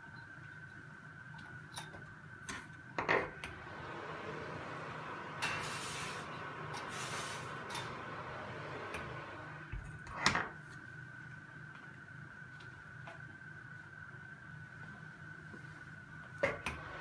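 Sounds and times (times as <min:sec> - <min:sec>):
faint steady tone and hum: 0:00.0 - 0:17.0.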